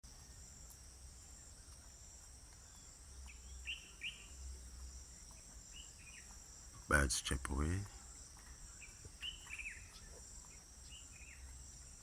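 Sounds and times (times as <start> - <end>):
high-pitched insect chorus: 0.1 - 12.0.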